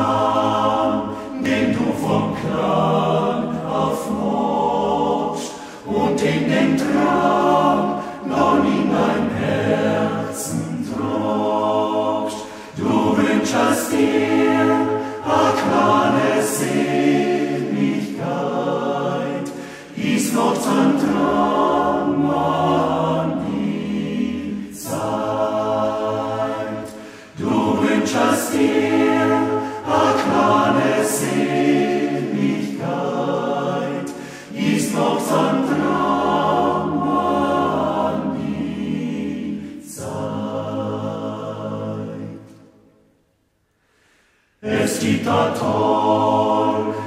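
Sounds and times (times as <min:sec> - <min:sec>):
men's choir singing in harmony: 0:00.0 - 0:43.0, 0:44.5 - 0:47.0.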